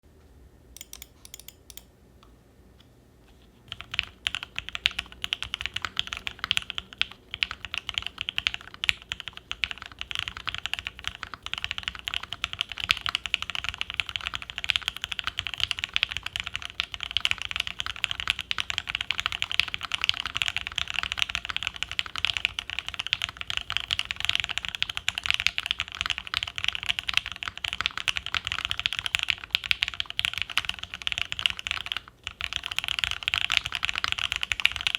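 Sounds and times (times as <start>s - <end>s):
mechanical keyboard typing: 0.8s - 1.9s, 3.7s - 34.9s.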